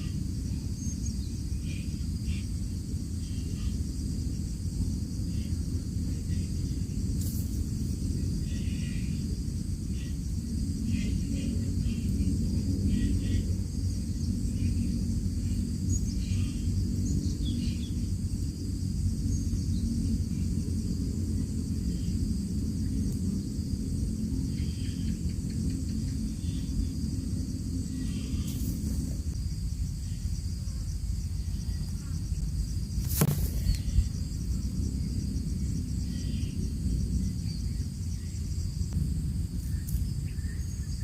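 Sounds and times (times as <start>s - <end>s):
high insect drone: 0.0s - 41.0s
wind rumble on microphone: 0.0s - 41.0s.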